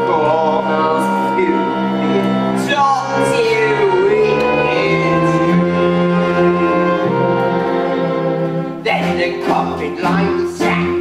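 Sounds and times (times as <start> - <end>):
orchestra playing held chords: 0.0 - 11.0.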